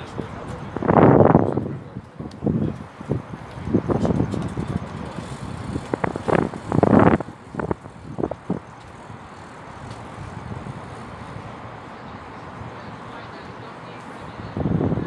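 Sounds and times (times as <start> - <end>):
road traffic hum: 0.0 - 15.0
traffic rumbles and thumps: 0.0 - 15.0.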